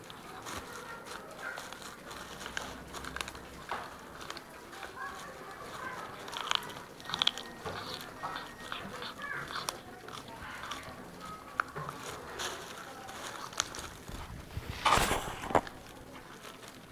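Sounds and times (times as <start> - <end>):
cat chewing bones crunching: 0.0 - 16.9.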